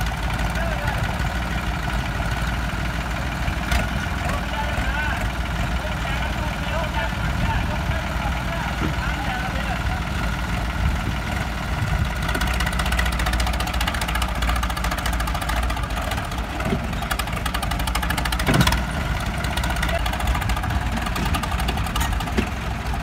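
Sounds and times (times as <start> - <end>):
diesel tractor engines under load: 0.0 - 23.0.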